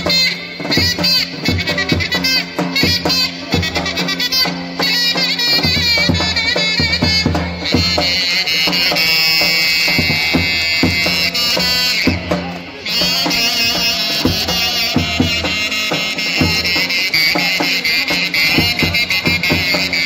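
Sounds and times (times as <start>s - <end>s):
shrill double-reed pipe melody: 0.0s - 20.0s.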